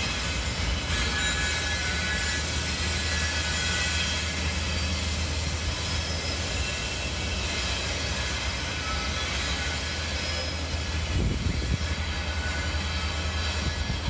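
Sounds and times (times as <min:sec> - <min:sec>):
faint high wheel squeal: 0:00.0 - 0:14.0
freight train rumbling: 0:00.0 - 0:14.0.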